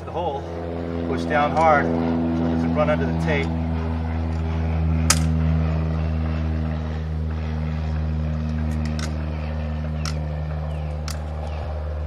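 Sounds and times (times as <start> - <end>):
low machine drone: 0.0 - 12.0.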